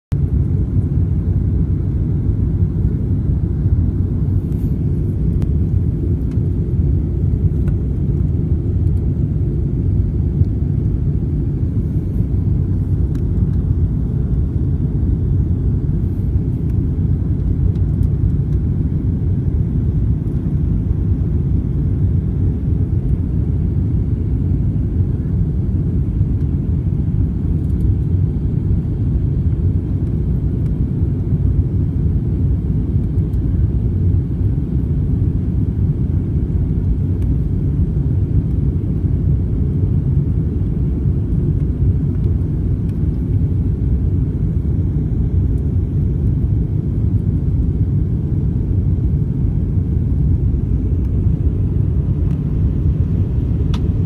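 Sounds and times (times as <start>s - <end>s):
airliner cabin engine rumble: 0.1s - 54.0s.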